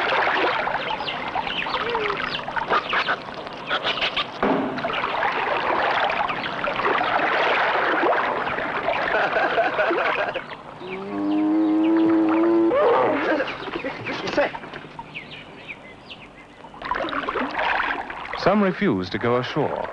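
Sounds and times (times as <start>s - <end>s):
water splashing and churning: 0.0s - 15.0s, 16.7s - 19.9s.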